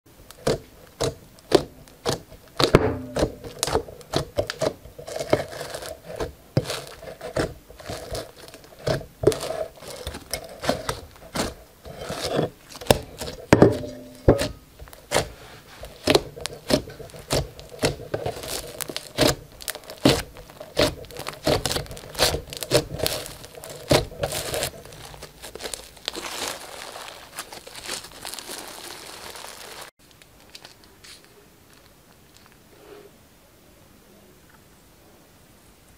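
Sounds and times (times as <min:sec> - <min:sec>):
beaded slime crackling and popping: 0:00.3 - 0:11.6, 0:14.4 - 0:32.6.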